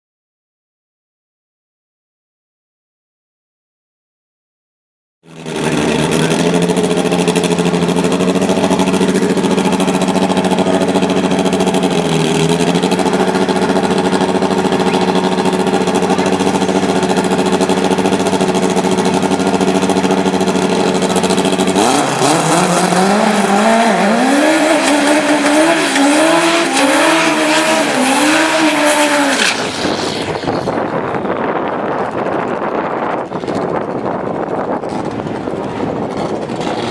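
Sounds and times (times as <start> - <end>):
race car engine revving: 5.3 - 36.9.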